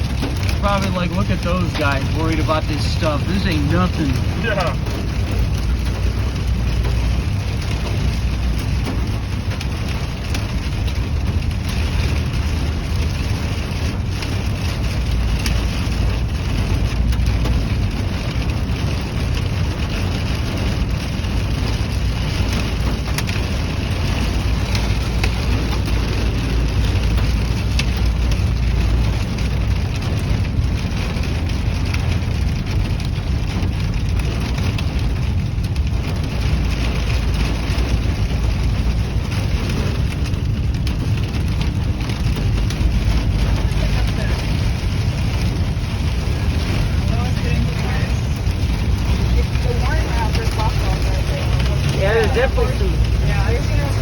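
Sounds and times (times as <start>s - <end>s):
low rumble: 0.0s - 54.0s
rain and hail on a car roof: 0.0s - 54.0s.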